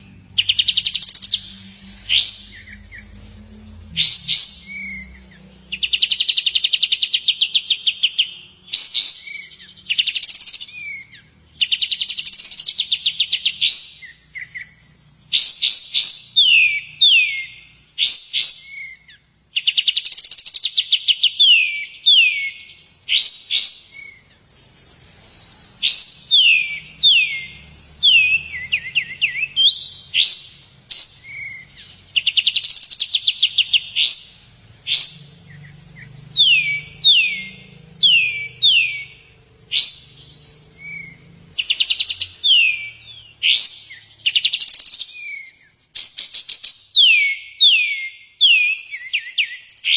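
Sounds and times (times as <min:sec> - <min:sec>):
songbird singing trills: 0:00.0 - 0:49.9.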